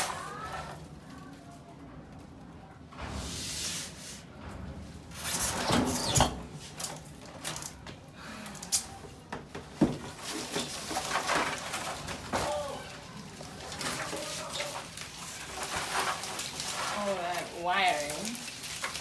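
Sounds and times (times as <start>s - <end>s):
rustling and scraping of objects: 0.0s - 19.0s.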